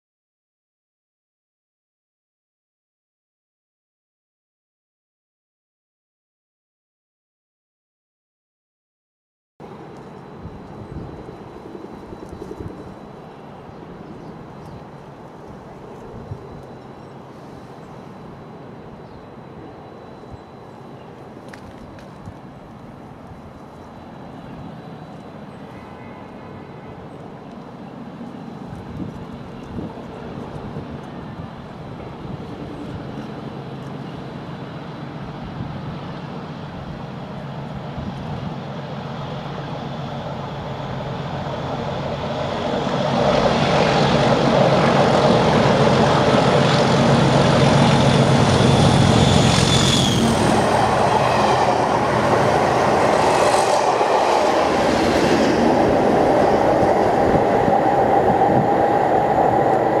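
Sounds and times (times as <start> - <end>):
steady whine: 9.6 - 60.0
train rumble: 9.6 - 60.0.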